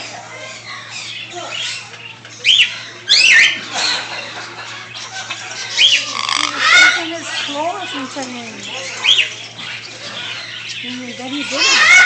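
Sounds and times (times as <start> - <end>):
birds giving harsh calls: 0.0 - 12.0.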